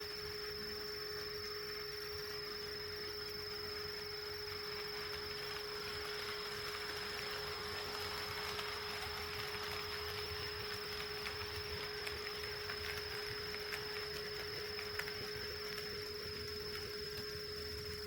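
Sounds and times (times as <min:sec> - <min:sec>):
steady electrical whine: 0:00.0 - 0:18.0.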